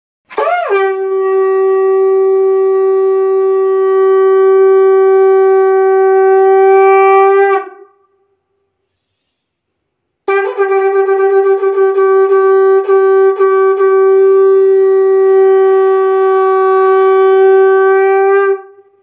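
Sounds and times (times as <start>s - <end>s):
conch shell blown: 0.3s - 8.5s, 10.2s - 19.0s.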